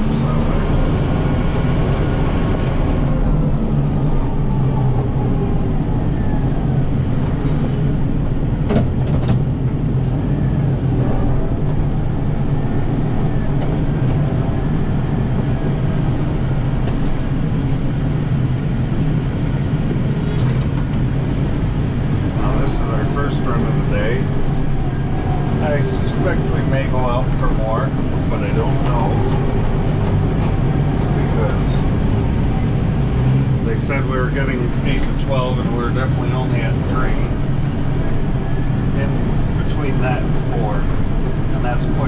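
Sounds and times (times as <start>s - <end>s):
tractor diesel engine drone: 0.0s - 42.0s.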